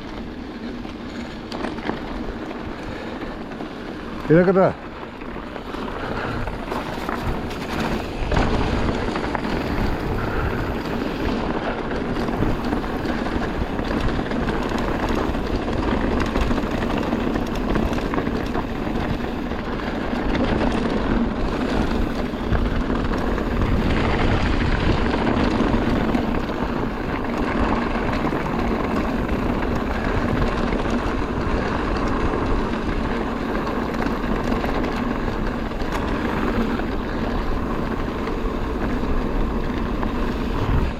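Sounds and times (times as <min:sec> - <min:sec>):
bike rumbling and rattling: 0:00.0 - 0:40.9
wind noise on microphone: 0:00.0 - 0:40.9.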